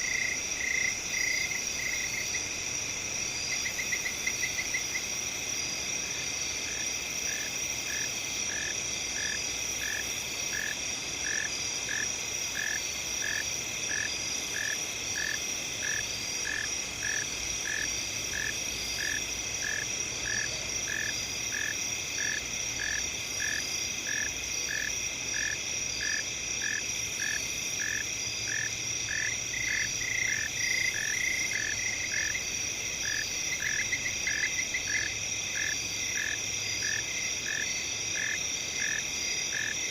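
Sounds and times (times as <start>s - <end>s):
crickets trilling: 0.0s - 39.9s
low pulsing insect chirp: 0.0s - 39.9s.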